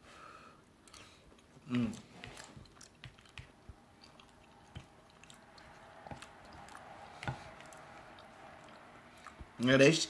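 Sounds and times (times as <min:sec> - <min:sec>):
faint chewing: 0:00.6 - 0:09.6
wet mouth clicks: 0:00.8 - 0:09.5.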